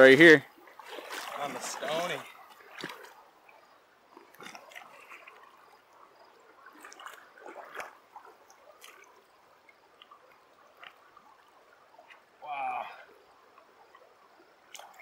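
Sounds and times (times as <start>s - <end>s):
creek water trickling: 0.0s - 15.0s
small water splashes: 0.0s - 15.0s.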